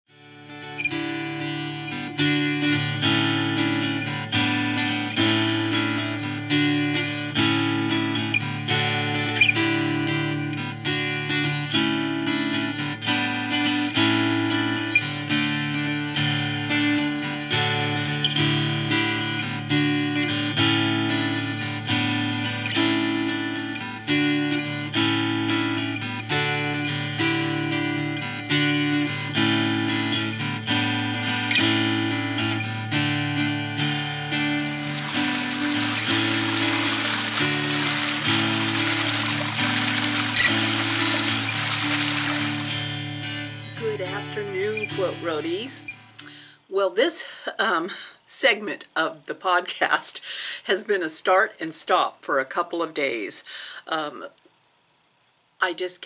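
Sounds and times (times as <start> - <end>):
acoustic guitar strumming: 0.2 - 46.2.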